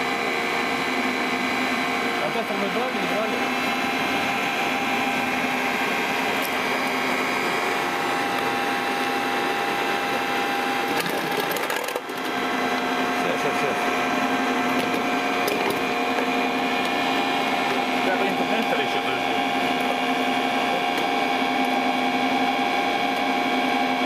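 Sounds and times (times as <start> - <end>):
motor-generator hum and whine: 0.0 - 24.0.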